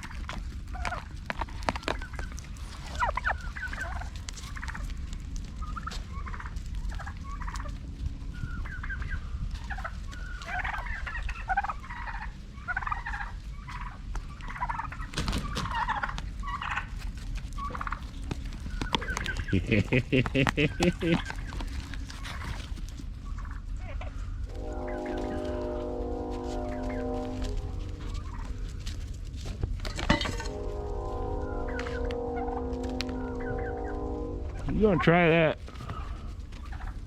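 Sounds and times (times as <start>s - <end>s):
turkeys gobbling: 0.0s - 37.0s.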